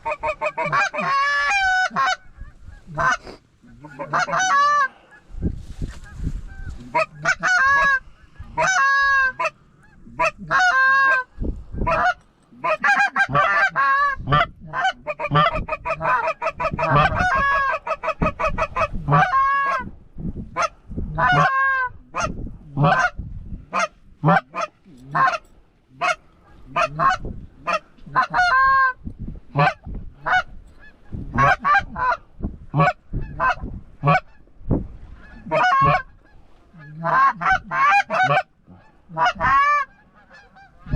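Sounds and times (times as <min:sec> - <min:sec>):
geese honking: 0:00.0 - 0:19.9, 0:20.6 - 0:32.2, 0:32.8 - 0:34.5, 0:35.2 - 0:40.9.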